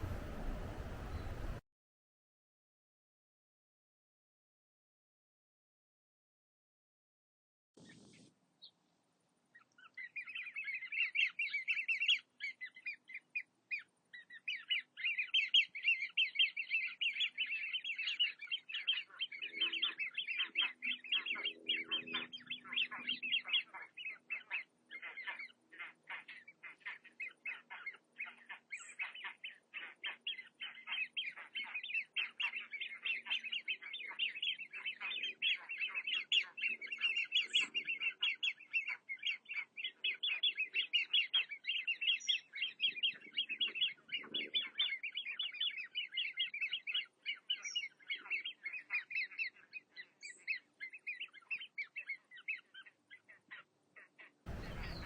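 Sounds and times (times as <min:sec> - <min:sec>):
small birds chirping: 0:00.0 - 0:01.6, 0:07.8 - 0:55.0.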